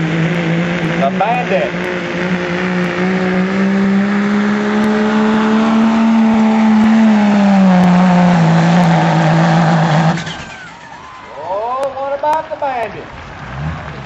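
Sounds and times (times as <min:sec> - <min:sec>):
diesel truck engine at full throttle: 0:00.0 - 0:14.0.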